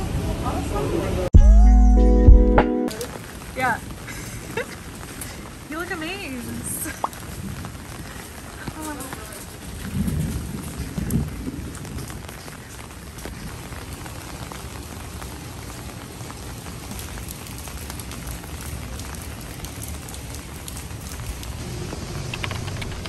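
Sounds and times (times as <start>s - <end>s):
steady rain falling: 0.0s - 1.3s, 2.9s - 23.0s.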